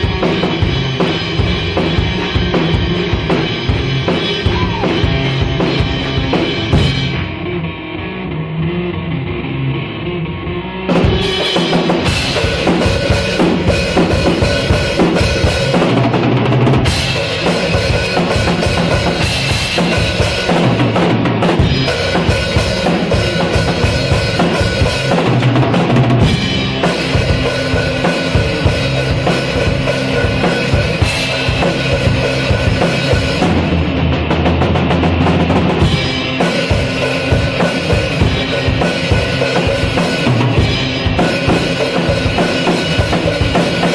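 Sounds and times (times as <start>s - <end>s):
instrumental rock music: 0.0s - 43.9s.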